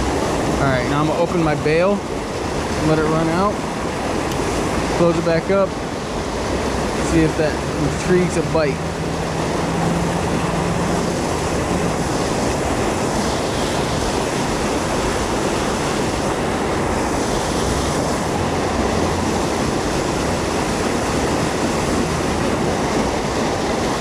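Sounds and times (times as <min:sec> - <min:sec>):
stream rushing over small fall: 0:00.0 - 0:24.0.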